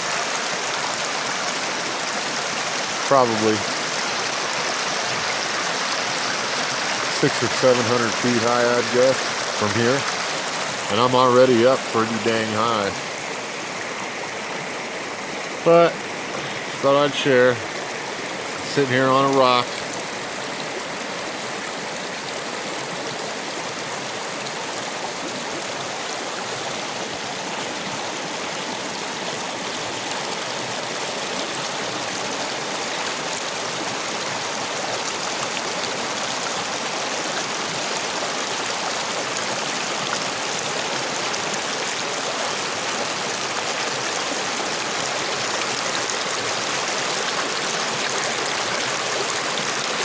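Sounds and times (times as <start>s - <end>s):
creek rushing over rocks: 0.0s - 50.0s.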